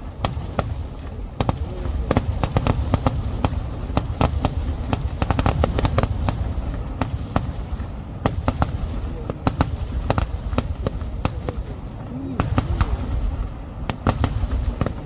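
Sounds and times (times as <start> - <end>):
low rumble of booms: 0.0 - 15.0.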